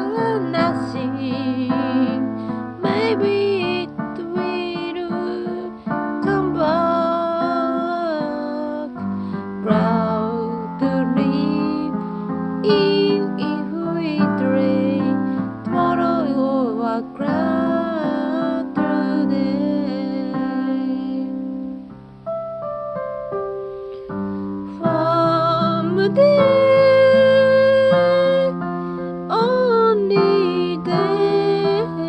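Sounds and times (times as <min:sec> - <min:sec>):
person singing: 0:00.0 - 0:21.7, 0:24.7 - 0:32.0
piano chords: 0:00.0 - 0:32.0.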